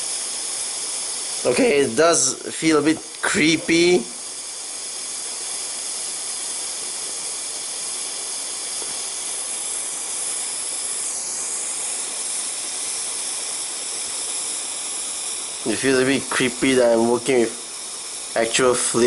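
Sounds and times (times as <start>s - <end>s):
butane flame hissing: 0.0s - 19.0s.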